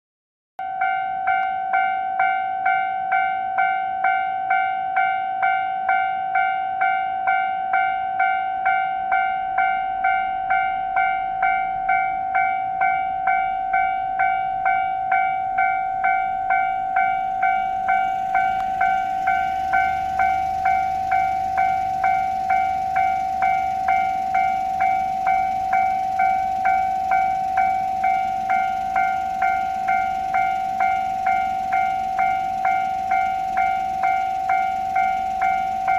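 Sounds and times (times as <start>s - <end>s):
level crossing warning bell: 0.6s - 35.9s
train rumbling on rails: 0.8s - 35.9s.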